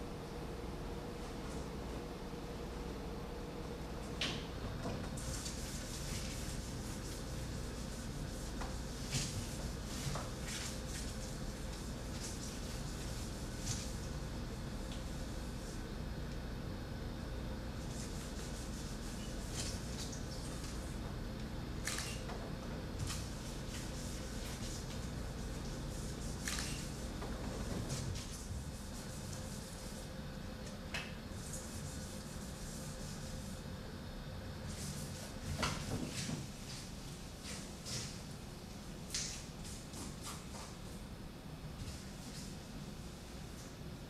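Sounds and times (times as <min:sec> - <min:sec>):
faint room hum: 0:00.0 - 0:44.0.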